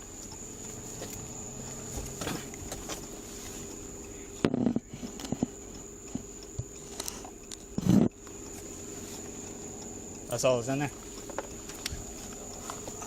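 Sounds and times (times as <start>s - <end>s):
faint whine and hum: 0.0s - 13.0s.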